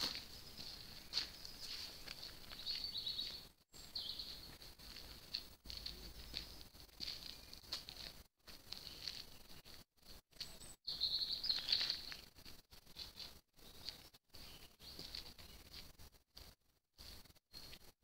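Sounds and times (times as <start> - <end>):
birds chirping: 0.0 - 16.0, 17.0 - 17.9.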